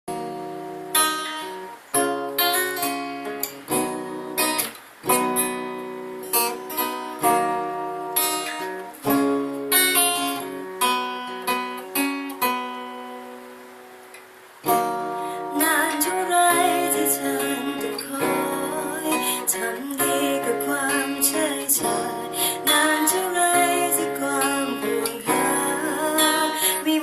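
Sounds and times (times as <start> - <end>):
acoustic guitar strumming chords: 0.1 - 27.0.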